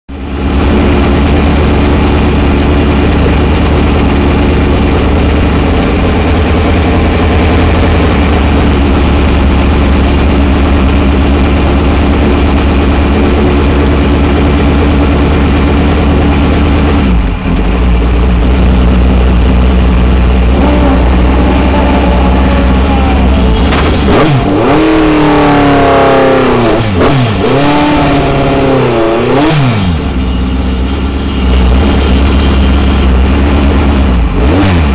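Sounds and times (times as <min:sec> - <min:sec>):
race car engine idling and revving: 0:00.1 - 0:34.9.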